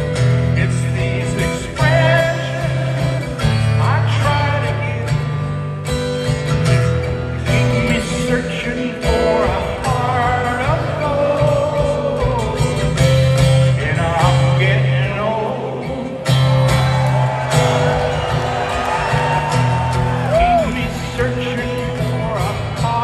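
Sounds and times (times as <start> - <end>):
guitar accompaniment: 0.0 - 23.0
man singing: 0.0 - 23.0.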